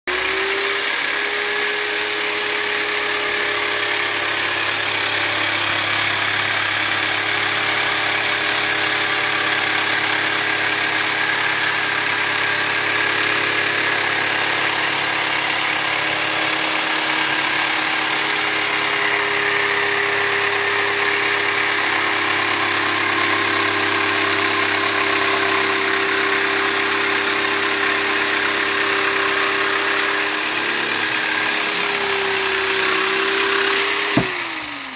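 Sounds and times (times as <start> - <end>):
jigsaw motor running: 0.1 - 34.9
saw blade rasping through wood: 0.1 - 34.9.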